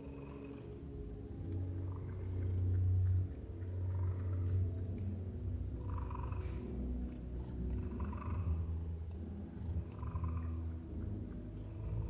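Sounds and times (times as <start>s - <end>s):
cats purring: 0.0s - 12.0s.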